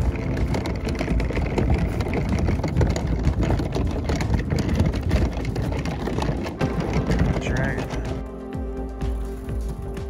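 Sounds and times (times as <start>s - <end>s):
cooler wheels rattling on wooden dock: 0.0s - 10.0s.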